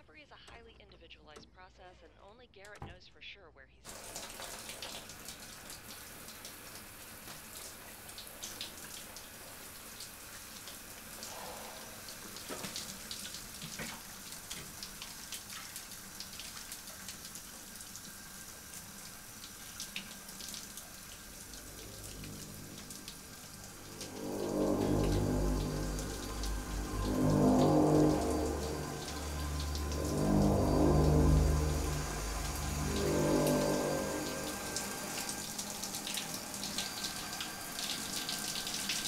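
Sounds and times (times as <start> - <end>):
drips and splashes: 3.9 - 39.0
shower spraying into tub: 3.9 - 39.0.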